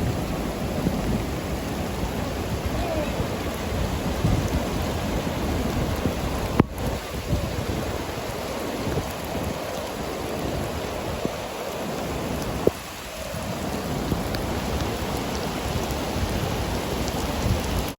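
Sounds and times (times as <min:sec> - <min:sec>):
rushing water: 0:00.0 - 0:17.9.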